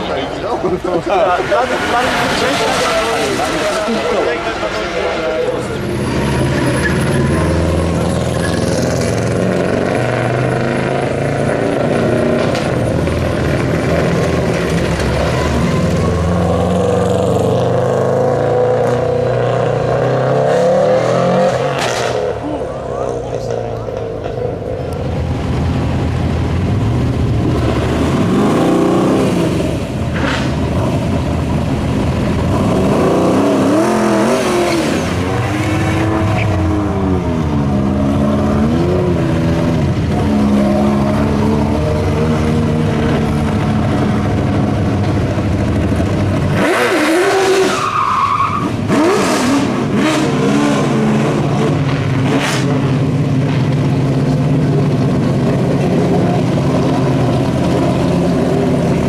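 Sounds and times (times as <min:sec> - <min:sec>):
racing car engine revving: 0:00.6 - 0:59.0.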